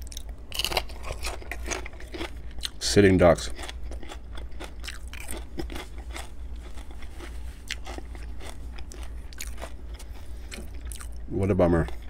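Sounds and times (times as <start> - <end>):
chewing crispy bacon: 0.0 - 12.0.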